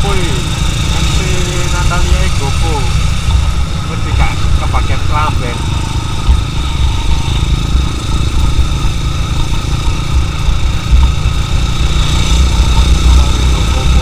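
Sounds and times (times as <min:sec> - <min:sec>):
motorcycle engine running: 0:00.0 - 0:14.0
wind rumble on microphone: 0:00.0 - 0:14.0.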